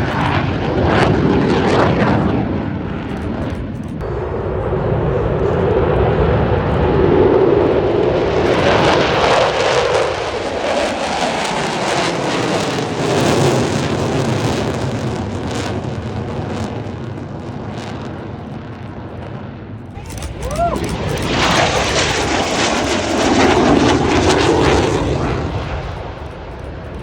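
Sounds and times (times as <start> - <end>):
jet aircraft passing by: 0.0 - 27.0.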